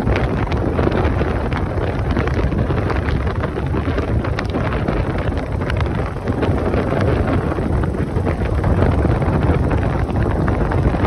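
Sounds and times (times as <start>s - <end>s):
motorcycle running: 0.0s - 11.0s
road noise: 0.0s - 11.0s
wind buffeting microphone: 0.0s - 11.0s.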